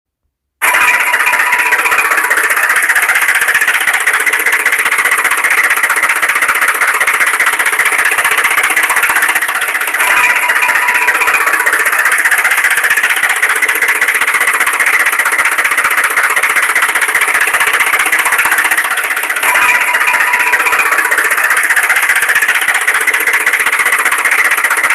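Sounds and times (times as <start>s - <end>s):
small motor running with rattle: 0.6s - 24.9s.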